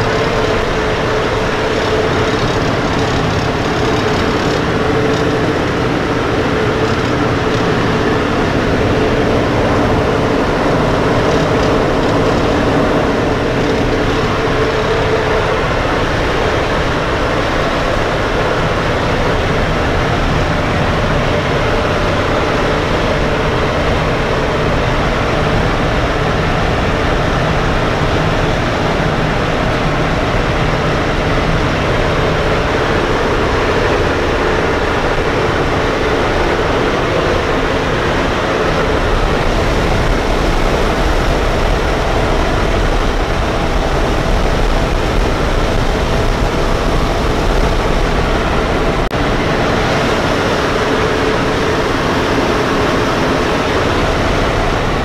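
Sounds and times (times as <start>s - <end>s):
aircraft radial engines droning: 0.0s - 55.0s.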